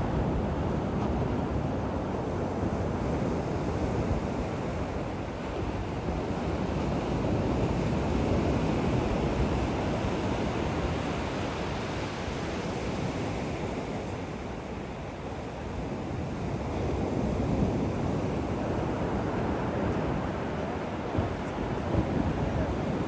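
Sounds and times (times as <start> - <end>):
ocean waves breaking on beach: 0.0 - 23.0.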